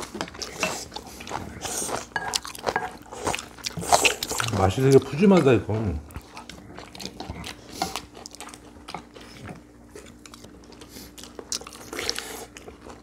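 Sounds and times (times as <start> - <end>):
chewing and eating crunches: 0.0 - 13.0.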